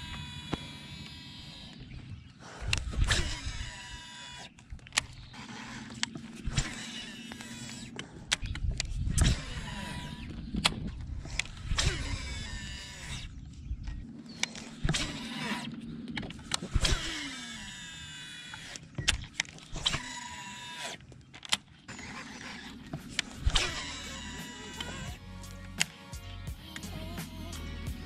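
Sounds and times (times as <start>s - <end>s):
fishing reel whirring: 0.0s - 21.2s, 21.8s - 25.9s.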